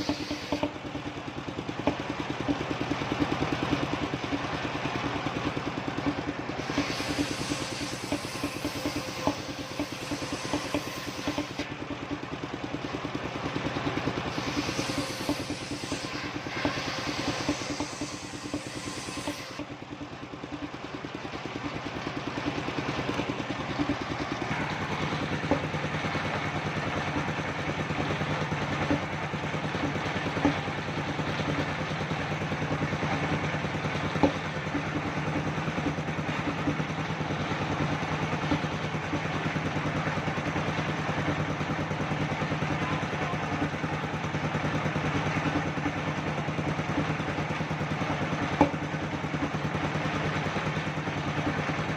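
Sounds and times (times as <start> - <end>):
circular sawmill running: 0.0 - 51.9.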